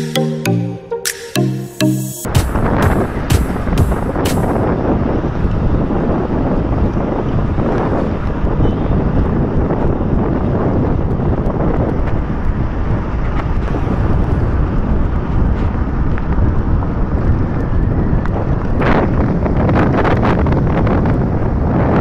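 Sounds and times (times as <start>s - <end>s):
wind buffeting microphone: 2.5s - 22.0s.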